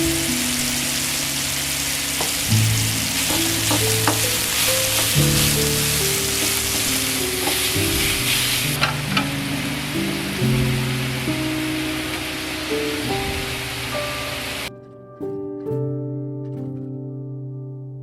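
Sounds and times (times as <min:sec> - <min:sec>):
food sizzling in a pan: 0:00.0 - 0:14.7.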